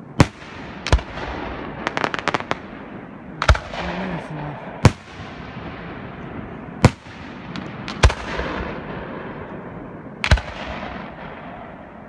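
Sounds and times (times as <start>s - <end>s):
steady rush of noise: 0.0s - 12.0s.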